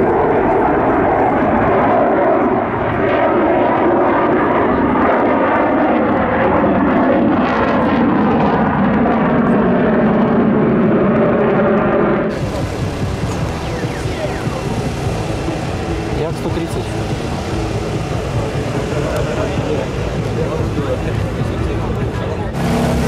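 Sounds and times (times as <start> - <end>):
jet engine noise: 0.0 - 23.0.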